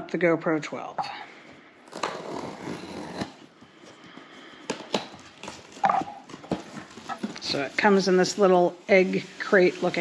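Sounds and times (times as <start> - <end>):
packaging rustling: 1.8 - 10.0.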